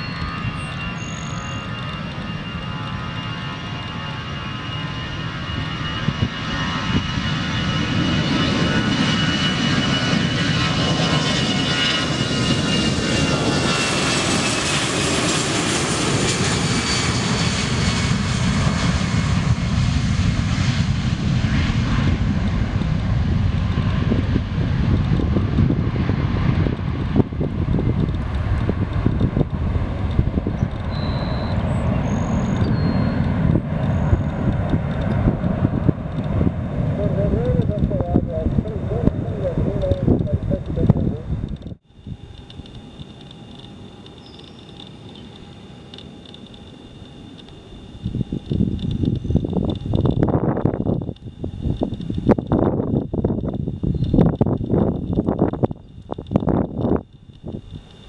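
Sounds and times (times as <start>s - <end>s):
jet engine deep rumble: 0.0s - 58.0s
jet engine fan whine: 0.0s - 58.0s.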